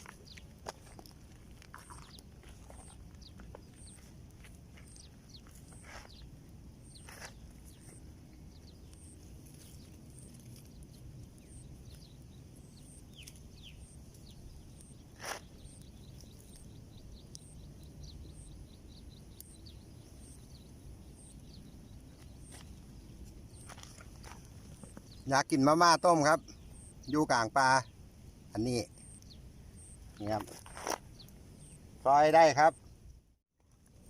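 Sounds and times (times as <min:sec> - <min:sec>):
low rumble of wind: 0:00.0 - 0:25.3, 0:27.8 - 0:34.0
bird chirps: 0:01.7 - 0:04.1, 0:04.7 - 0:33.1.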